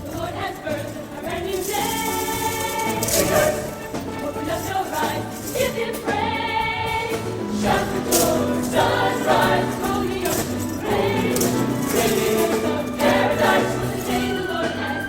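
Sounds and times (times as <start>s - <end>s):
choir singing gospel: 0.0s - 15.0s.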